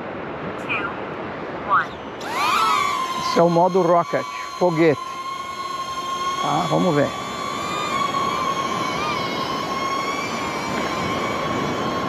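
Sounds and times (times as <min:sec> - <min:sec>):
wind hiss: 0:00.0 - 0:12.0
drone propellers whining: 0:00.6 - 0:12.0.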